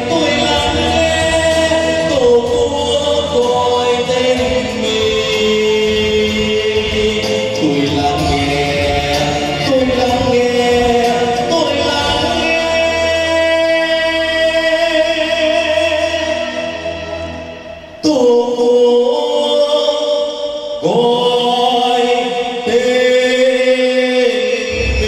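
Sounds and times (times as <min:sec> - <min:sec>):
group singing into microphones: 0:00.0 - 0:17.1, 0:20.8 - 0:25.0.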